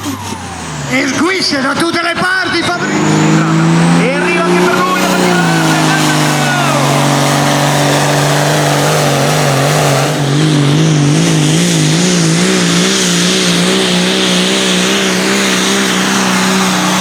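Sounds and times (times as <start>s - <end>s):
tractor engine revving: 0.0s - 17.0s.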